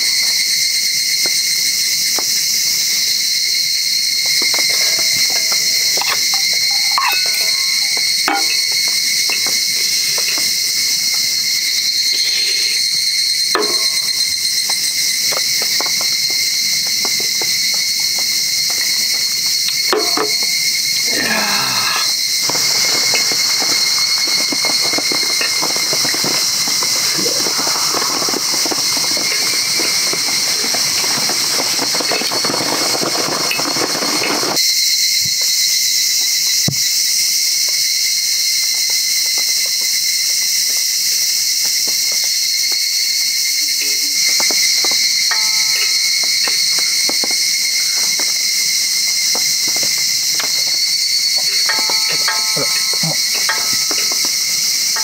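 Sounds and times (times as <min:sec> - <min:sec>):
garlic sizzling in oil: 0:00.0 - 0:21.1, 0:22.0 - 0:34.9, 0:40.4 - 0:55.0
shrill insect chorus: 0:00.0 - 0:55.0.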